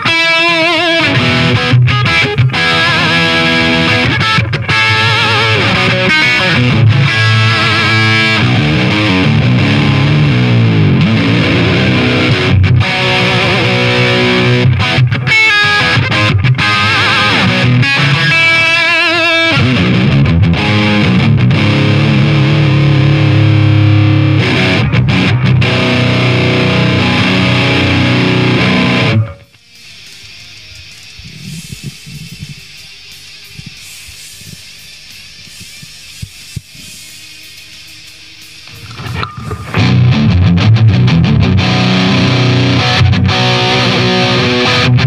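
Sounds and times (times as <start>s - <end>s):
distorted electric guitar riffs: 0.0s - 45.0s.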